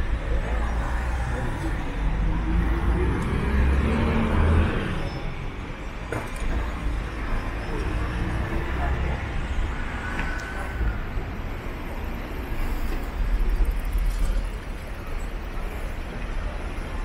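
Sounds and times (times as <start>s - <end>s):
subway station ambient rumble: 0.0s - 17.0s.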